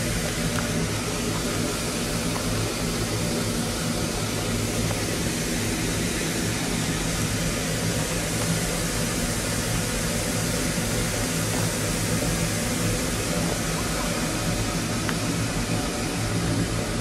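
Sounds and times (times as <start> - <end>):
low even hum: 0.0 - 17.0
steam venting hiss: 0.0 - 17.0.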